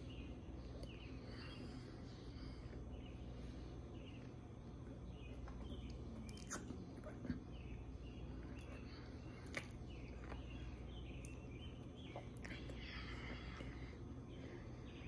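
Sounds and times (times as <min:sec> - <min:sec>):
faint high bird chirps: 0:00.0 - 0:15.0.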